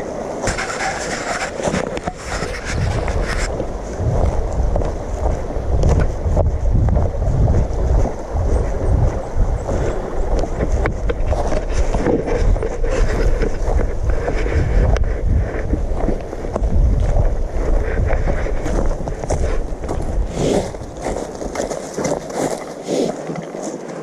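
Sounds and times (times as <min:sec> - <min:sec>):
wind buffeting microphone: 0:00.0 - 0:22.6.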